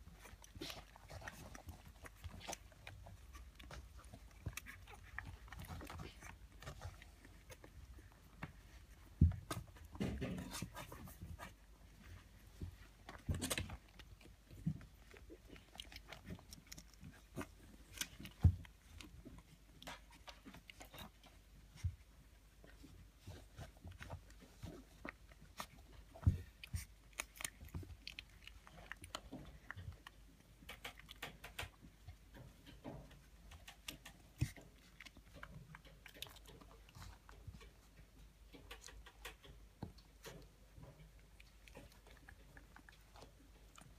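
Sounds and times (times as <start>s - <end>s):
puppies suckling: 0.0s - 43.9s.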